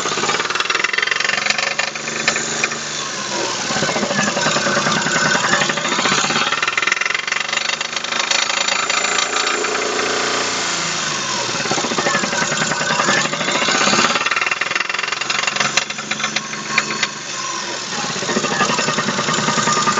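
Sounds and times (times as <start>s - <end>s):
engine running with heavy knock: 0.0s - 19.9s.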